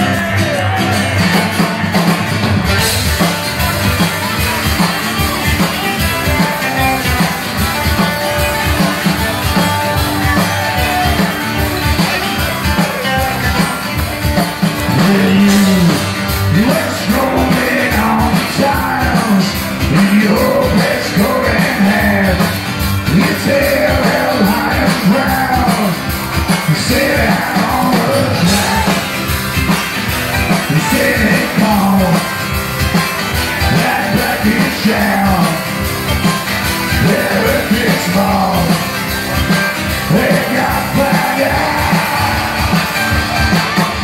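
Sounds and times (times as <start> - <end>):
drum kit with driving beat: 0.0 - 44.0
electric guitars: 0.0 - 44.0
lead singer: 0.0 - 44.0.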